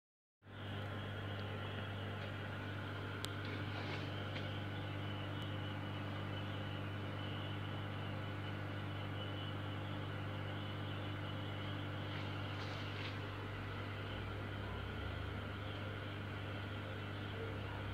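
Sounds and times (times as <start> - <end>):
low electrical hum with hiss: 0.5 - 17.9.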